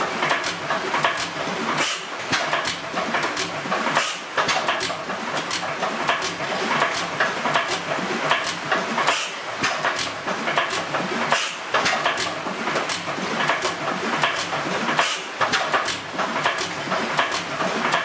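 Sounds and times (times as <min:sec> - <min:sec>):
stationary engine clattering: 0:00.0 - 0:18.0.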